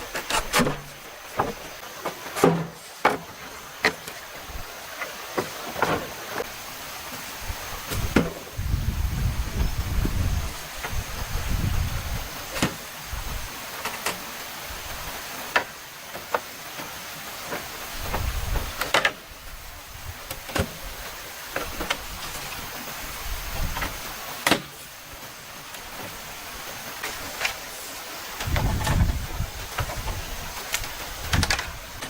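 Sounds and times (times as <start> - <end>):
stream rushing: 0.0 - 32.0.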